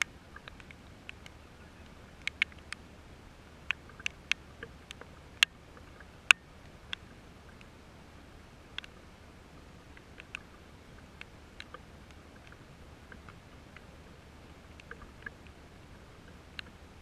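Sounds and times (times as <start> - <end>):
raindrops dripping on hard surface: 0.0 - 7.8, 9.8 - 17.0
faint steady hum: 0.0 - 17.0.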